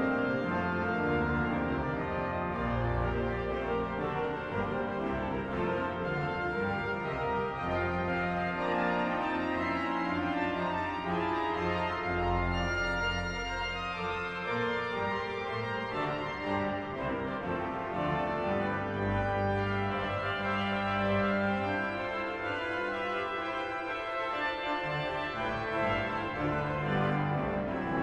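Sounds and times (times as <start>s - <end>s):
organ silent-film accompaniment: 0.0s - 28.0s.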